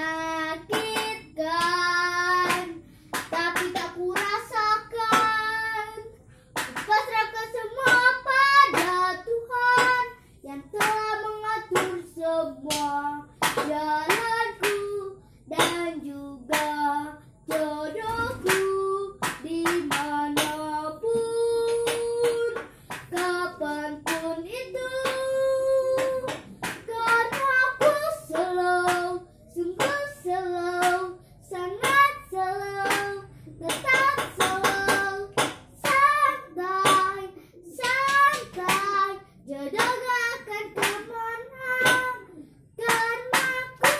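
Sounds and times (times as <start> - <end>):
girl singing: 0.0 - 43.9.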